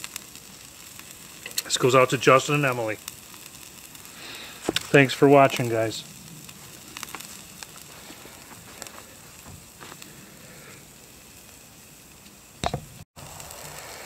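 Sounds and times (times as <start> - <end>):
food sizzling: 0.0 - 14.0
small crackles: 0.0 - 14.0.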